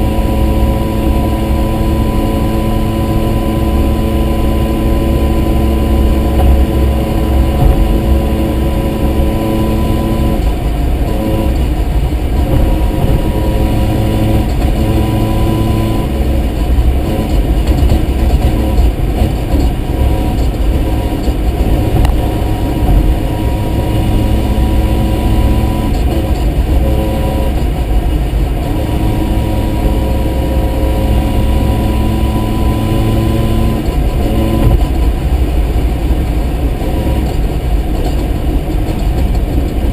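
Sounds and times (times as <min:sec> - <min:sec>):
rotary car engine running: 0:00.0 - 0:39.9.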